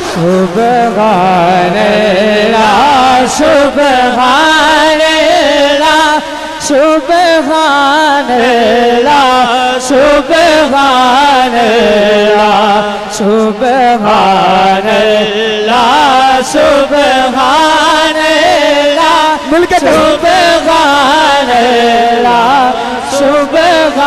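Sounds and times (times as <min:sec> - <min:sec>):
man singing through loudspeakers: 0:00.0 - 0:24.0.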